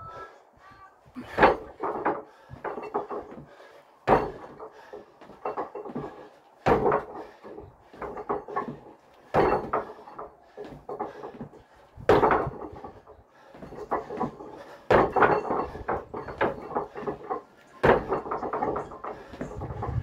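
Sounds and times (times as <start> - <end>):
feet thudding on paving slabs: 1.1 - 20.0.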